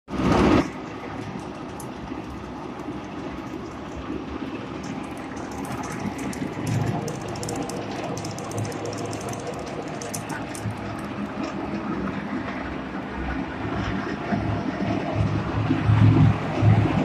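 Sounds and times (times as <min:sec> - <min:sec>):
feed mixer rumbling and clattering: 0:00.1 - 0:17.0.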